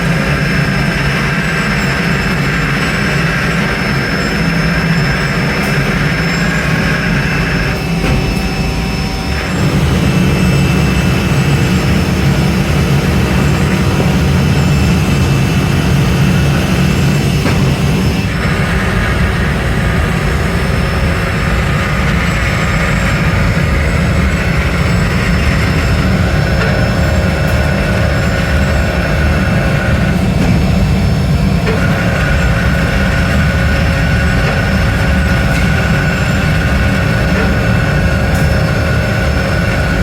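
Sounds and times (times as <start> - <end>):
factory machinery rumble: 0.0 - 40.0
faint steady machine tones: 0.0 - 40.0.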